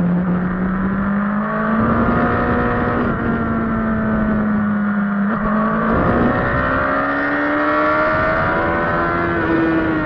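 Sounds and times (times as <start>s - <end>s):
motorcycle engine at high revs: 0.0s - 10.0s.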